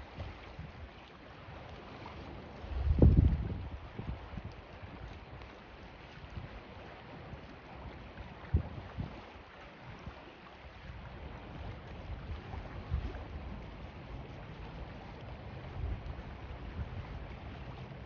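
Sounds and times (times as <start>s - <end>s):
wind buffeting microphone: 0.0s - 1.0s, 2.0s - 18.0s
choppy water: 0.0s - 18.0s.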